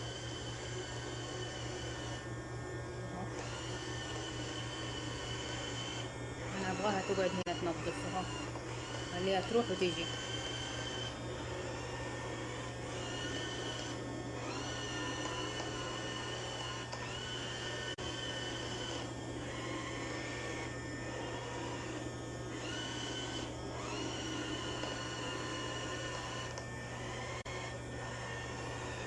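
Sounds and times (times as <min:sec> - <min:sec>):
robot vacuum cleaner motor humming: 0:00.0 - 0:29.0.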